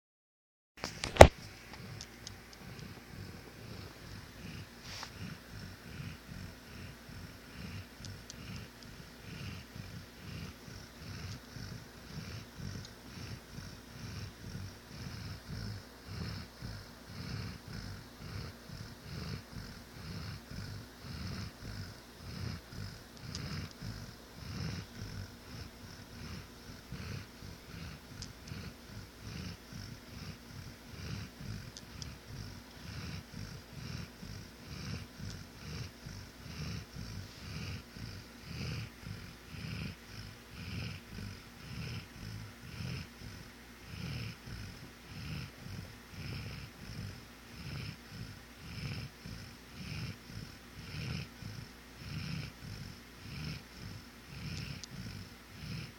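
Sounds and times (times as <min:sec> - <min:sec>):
dog snoring: 0:00.8 - 0:55.9.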